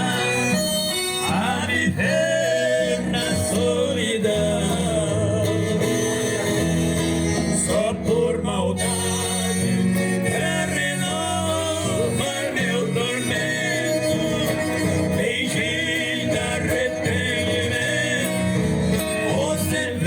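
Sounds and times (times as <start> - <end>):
man singing: 0.0 - 20.0
plucked guitar: 0.0 - 20.0.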